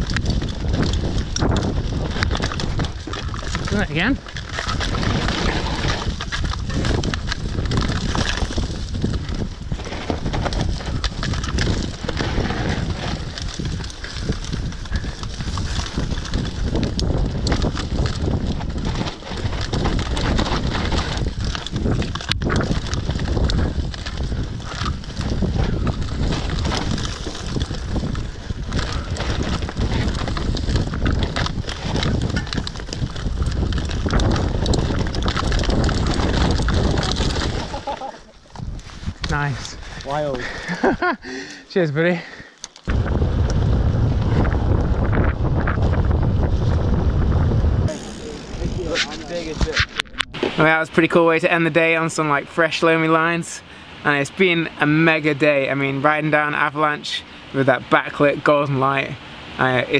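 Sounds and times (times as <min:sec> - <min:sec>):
bike clattering over bumps: 0:00.0 - 0:41.1, 0:42.6 - 0:51.2
wind on microphone: 0:00.0 - 0:41.3, 0:42.8 - 0:52.4
bike tyres rolling on dirt: 0:00.0 - 0:59.9.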